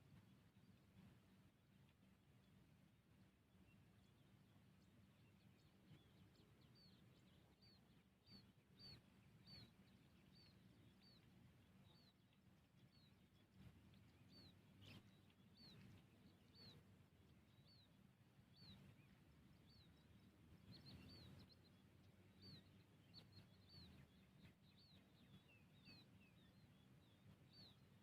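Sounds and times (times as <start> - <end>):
bird chirping: 0.0 - 28.0
faint low hum: 0.0 - 28.0.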